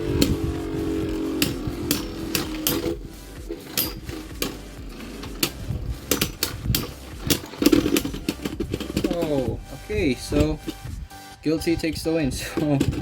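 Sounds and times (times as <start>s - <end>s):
spinning tops humming: 0.0s - 11.4s.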